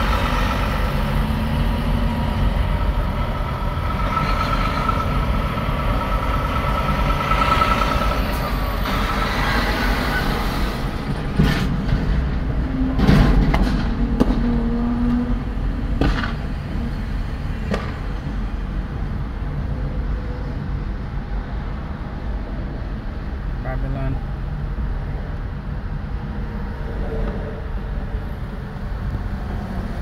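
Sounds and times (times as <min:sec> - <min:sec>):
traffic and car rumble inside cabin: 0:00.0 - 0:30.0.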